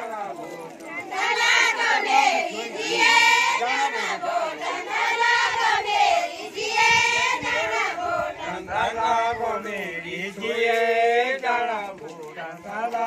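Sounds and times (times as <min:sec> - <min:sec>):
group singing folk song in chorus: 0:00.9 - 0:13.0.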